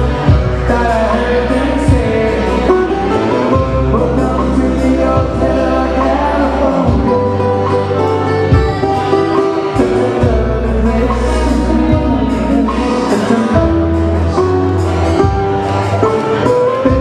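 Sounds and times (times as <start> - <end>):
held bass notes: 0.0 - 17.0
person singing: 0.0 - 17.0
plucked strings: 0.0 - 17.0.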